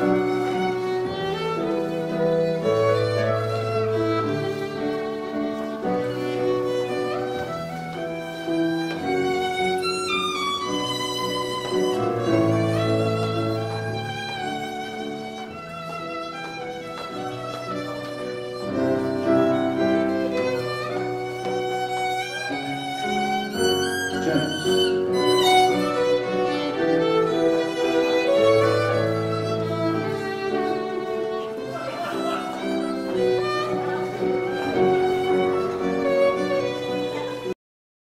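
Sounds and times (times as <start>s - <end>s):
fiddle dance tune: 0.0s - 37.6s.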